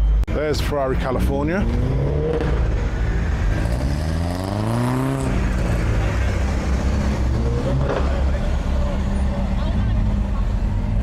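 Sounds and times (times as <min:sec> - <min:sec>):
engines idling: 0:00.0 - 0:11.0
car engine accelerating: 0:00.9 - 0:11.0.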